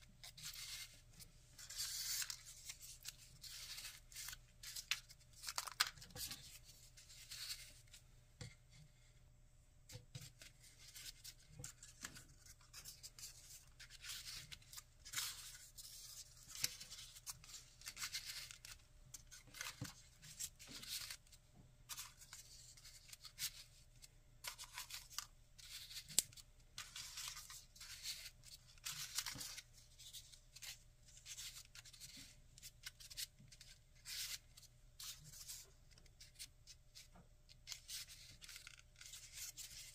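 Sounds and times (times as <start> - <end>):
paper rustling and scraping: 0.2 - 8.0, 10.2 - 21.3, 24.4 - 39.9.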